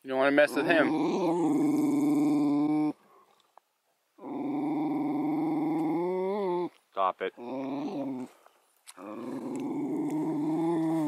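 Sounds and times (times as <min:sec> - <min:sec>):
dog growling: 0:00.2 - 0:03.0, 0:04.2 - 0:08.4, 0:09.0 - 0:11.0.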